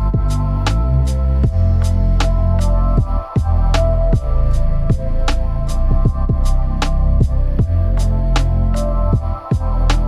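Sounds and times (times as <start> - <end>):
instrumental music with drum beat: 0.0 - 10.0.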